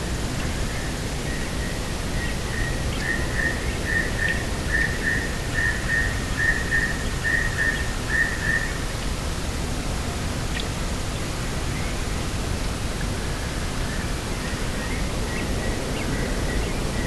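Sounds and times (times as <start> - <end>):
rushing wind: 0.0 - 17.0.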